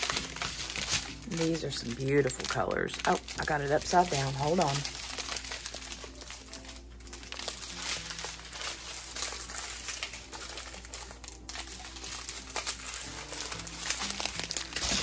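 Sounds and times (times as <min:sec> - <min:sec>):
small plastic bags crinkling: 0:00.0 - 0:15.0.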